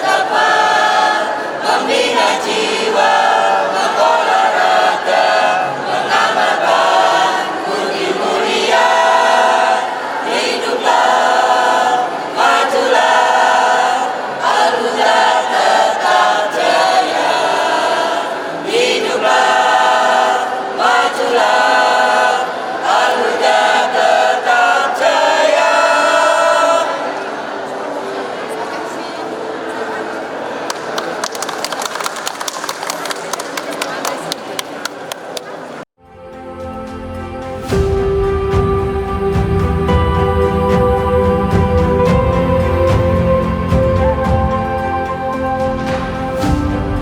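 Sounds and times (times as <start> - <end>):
choir singing: 0.0 - 31.0, 35.6 - 47.0.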